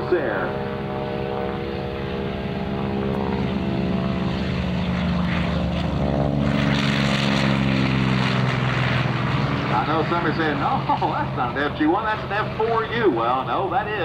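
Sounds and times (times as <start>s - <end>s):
propeller plane engine running: 0.0s - 14.0s.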